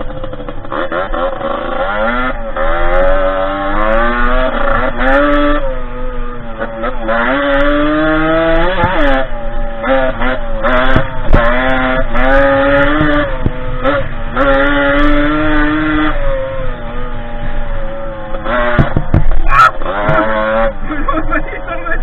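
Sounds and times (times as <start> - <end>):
two-stroke dirt bike revving: 0.0 - 22.0.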